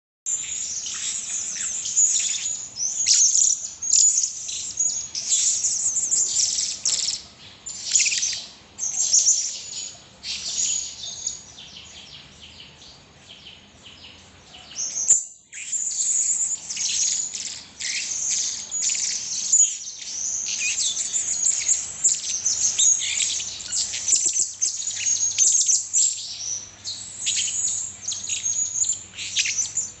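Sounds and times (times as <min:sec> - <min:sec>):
parrot chirping high-pitched: 0:00.3 - 0:11.4, 0:14.8 - 0:30.0.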